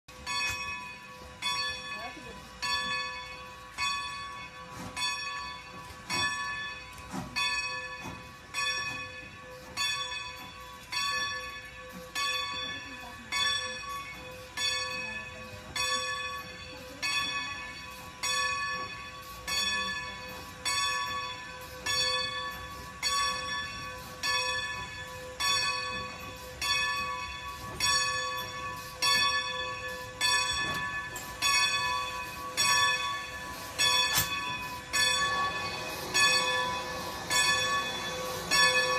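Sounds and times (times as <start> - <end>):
steam locomotive bell ringing: 0.1 - 38.9.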